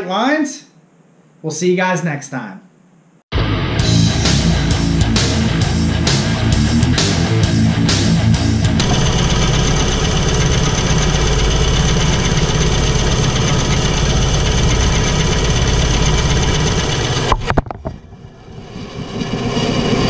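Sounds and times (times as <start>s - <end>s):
band saw motor humming: 3.8s - 20.0s.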